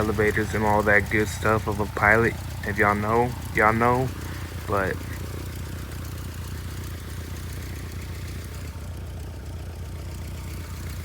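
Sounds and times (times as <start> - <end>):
aircraft engine idling: 0.0 - 11.0.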